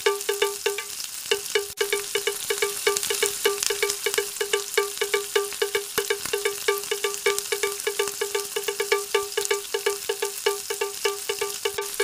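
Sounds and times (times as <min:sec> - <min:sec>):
music with chiming notes: 0:00.0 - 0:12.0.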